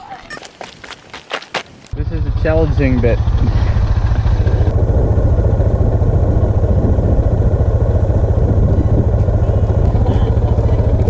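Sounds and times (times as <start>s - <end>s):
motorcycle engine idling: 2.0s - 11.0s.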